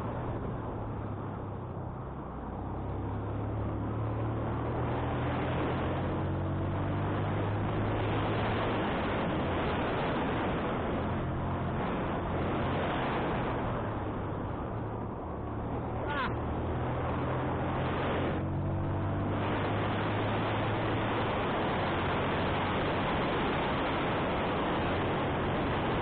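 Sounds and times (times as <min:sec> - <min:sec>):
wind noise on microphone: 0:04.0 - 0:26.0.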